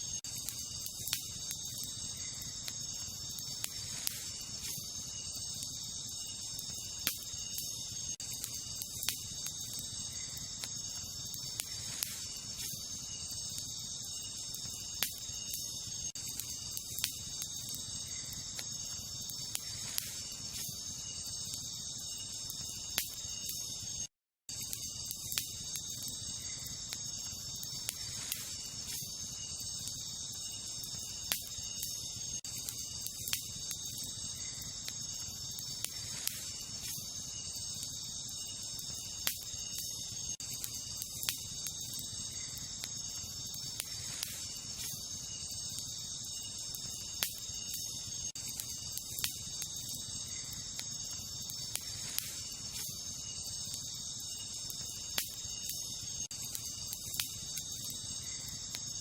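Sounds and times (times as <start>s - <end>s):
night insects chirping: 0.0s - 59.0s
wood fire crackling: 0.1s - 23.7s, 24.5s - 59.0s.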